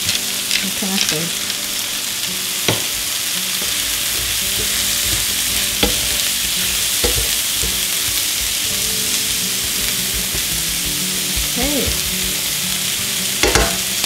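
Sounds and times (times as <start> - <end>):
mushrooms sizzling in frying pan: 0.0 - 14.0
tongs clacking against pan: 2.6 - 14.0.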